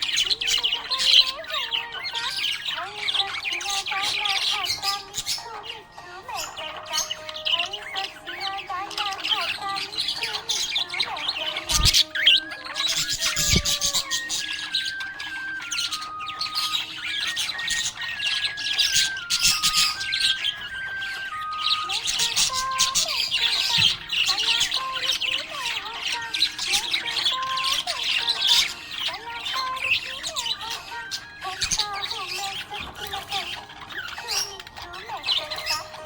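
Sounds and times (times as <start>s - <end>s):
budgerigar chirping and warbling: 0.0s - 36.0s.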